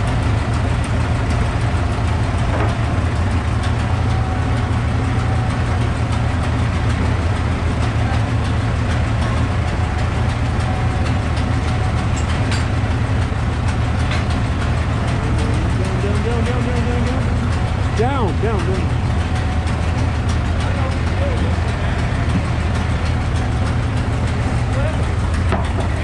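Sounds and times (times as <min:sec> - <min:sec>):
tractor engine droning: 0:00.0 - 0:26.0.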